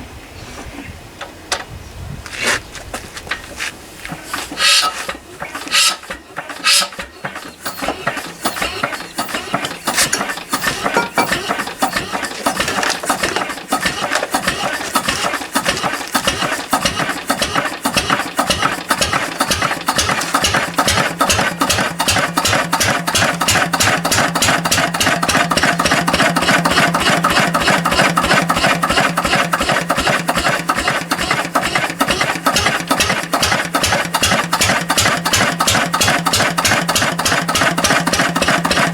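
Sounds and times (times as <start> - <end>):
diesel engine starting and idling: 4.0 - 38.9.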